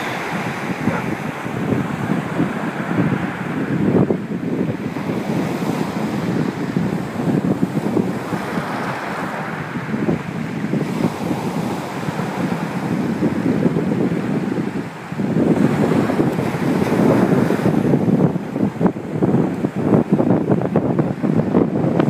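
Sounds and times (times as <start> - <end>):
sea waves breaking on shore: 0.0 - 22.0
wind buffeting microphone: 0.0 - 22.0.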